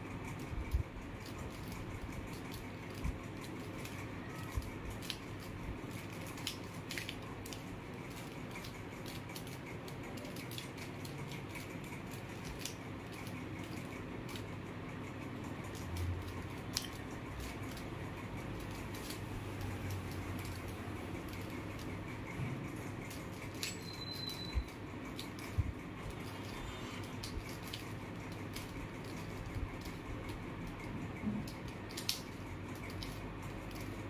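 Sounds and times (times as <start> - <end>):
puzzle cube pieces clicking: 0.3 - 22.4, 23.0 - 34.0.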